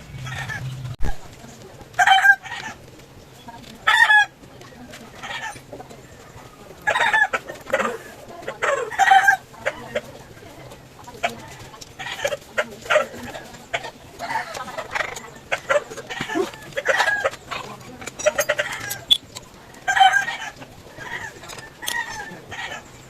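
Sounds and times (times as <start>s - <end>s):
chickens squawking: 0.0s - 1.0s, 5.1s - 23.0s.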